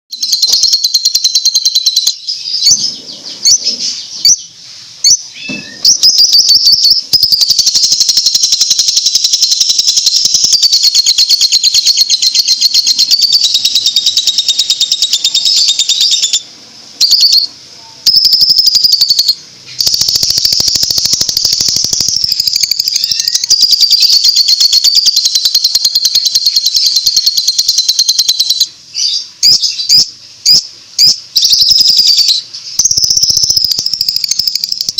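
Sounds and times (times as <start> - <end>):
lovebird shrill chatter: 0.2 - 16.4, 17.0 - 34.9.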